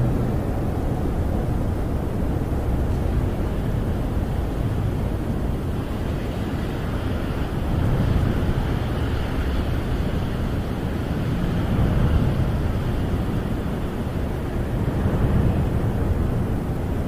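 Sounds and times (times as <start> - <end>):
wind howling: 0.0 - 17.0.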